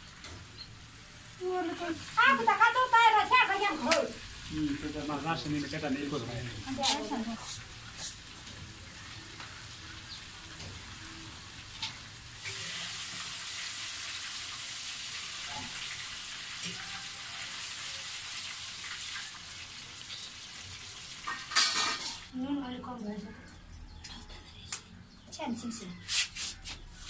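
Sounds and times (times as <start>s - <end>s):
chicken sizzling in hot oil: 0.0s - 22.3s.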